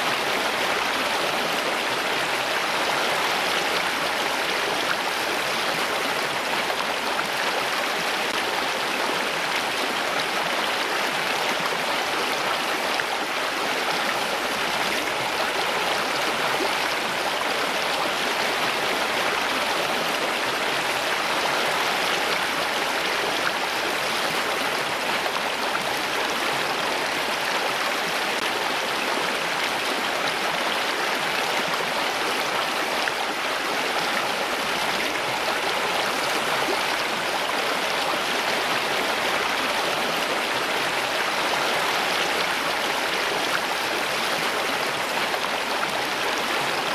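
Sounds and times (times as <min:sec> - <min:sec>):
running water rushing: 0:00.0 - 0:46.9.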